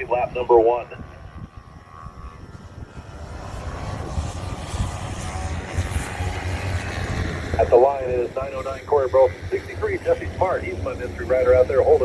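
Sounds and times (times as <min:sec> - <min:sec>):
racing motorcycle engines rumbling: 0:00.0 - 0:12.0.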